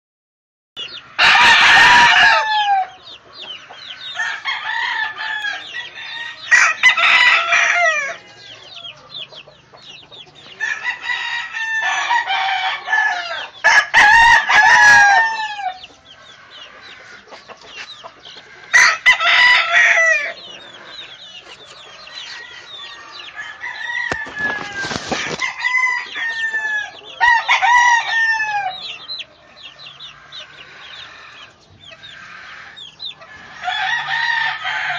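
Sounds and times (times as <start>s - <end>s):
chickens clucking: 0.8s - 34.9s
young chickens calling: 0.8s - 34.9s.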